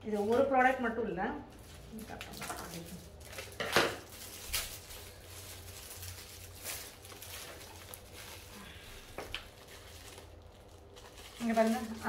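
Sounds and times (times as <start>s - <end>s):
packaging rustling: 1.6s - 12.0s.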